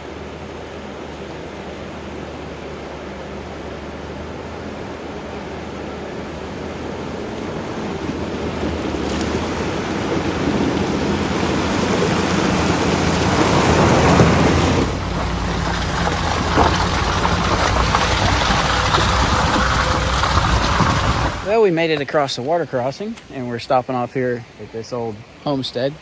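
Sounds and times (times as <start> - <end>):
vehicle engine drone: 0.0 - 21.7
water splashing: 0.0 - 26.0.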